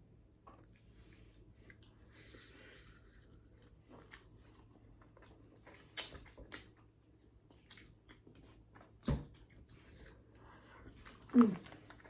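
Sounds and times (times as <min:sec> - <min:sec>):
faint chewing: 0:00.3 - 0:12.0.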